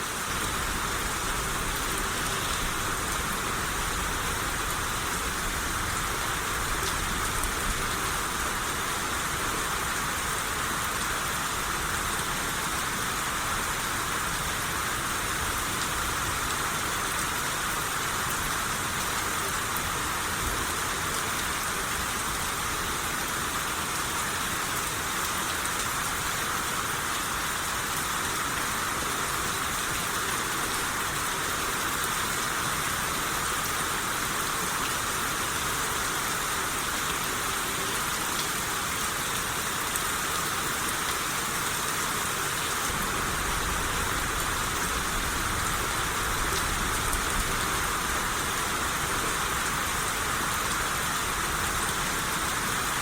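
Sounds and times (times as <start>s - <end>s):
rain shower hissing: 0.0s - 53.0s.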